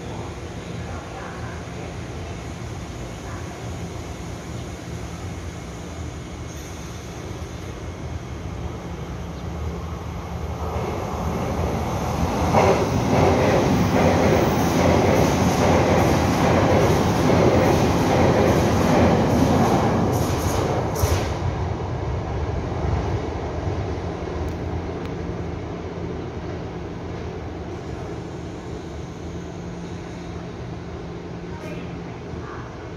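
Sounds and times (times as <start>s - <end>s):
express train passing at speed: 0.0s - 32.9s.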